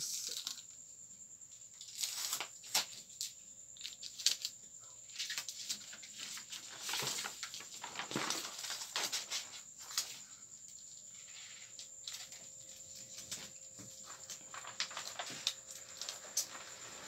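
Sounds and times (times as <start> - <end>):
paper rustling and crinkling: 1.8 - 4.5, 5.1 - 10.2, 11.1 - 17.0.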